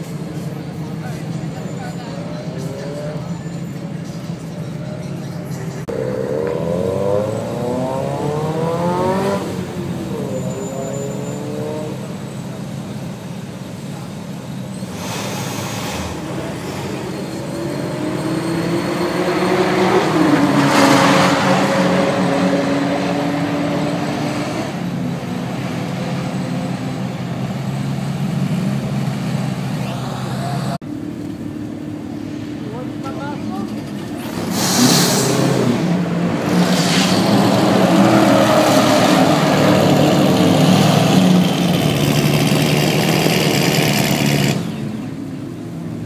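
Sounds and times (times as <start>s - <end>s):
engines idling: 0.0s - 46.0s
race cars accelerating: 0.0s - 46.0s.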